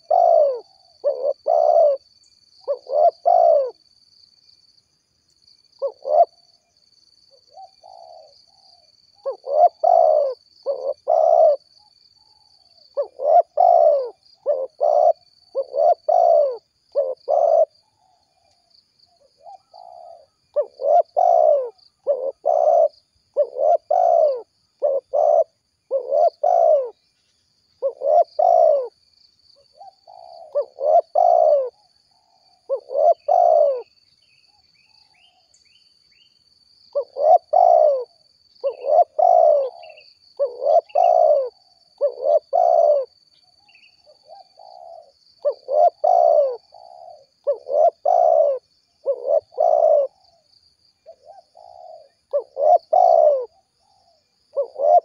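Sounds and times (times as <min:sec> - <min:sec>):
dove cooing: 0:00.0 - 0:03.8, 0:05.8 - 0:06.5, 0:07.3 - 0:18.5, 0:19.2 - 0:27.0, 0:27.8 - 0:29.0, 0:29.6 - 0:34.0, 0:36.9 - 0:55.0.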